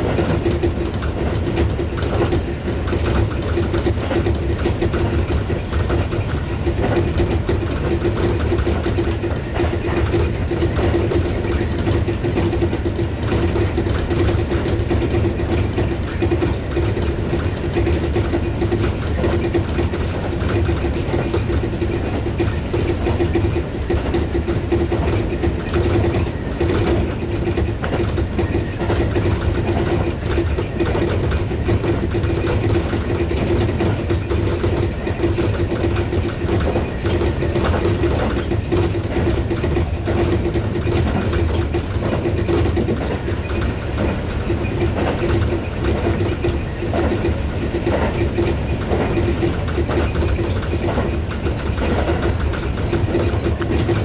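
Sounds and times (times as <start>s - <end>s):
clickety-clack of rail joints: 0.0s - 54.0s
train wheels rumbling on rails: 0.0s - 54.0s.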